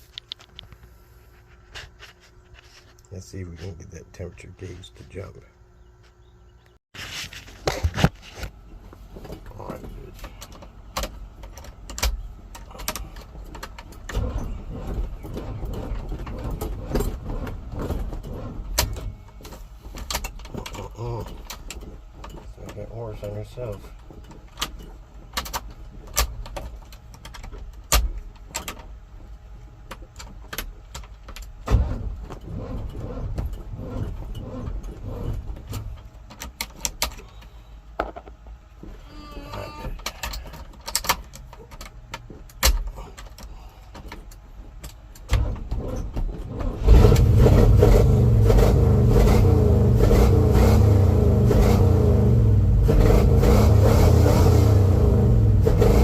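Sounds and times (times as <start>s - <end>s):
car engine cranking and starting: 9.0s - 29.2s, 29.8s - 37.5s, 38.8s - 56.0s.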